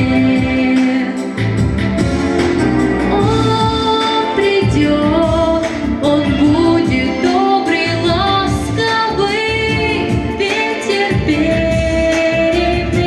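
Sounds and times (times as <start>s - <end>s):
woman singing: 0.0s - 1.8s, 3.0s - 13.0s
instrumental backing music: 0.0s - 13.0s.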